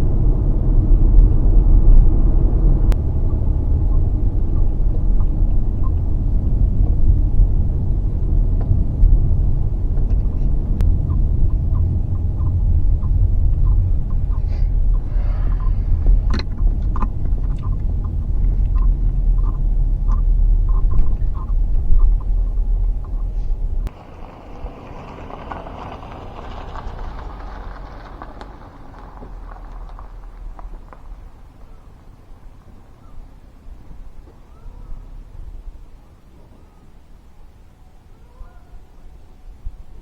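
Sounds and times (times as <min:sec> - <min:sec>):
car cabin road and engine rumble: 0:00.0 - 0:36.8.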